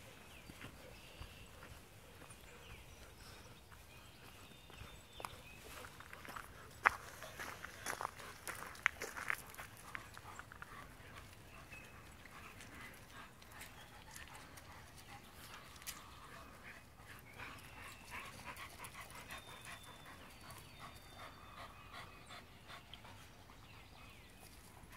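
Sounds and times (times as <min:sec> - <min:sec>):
dogs panting: 0:00.0 - 0:24.9.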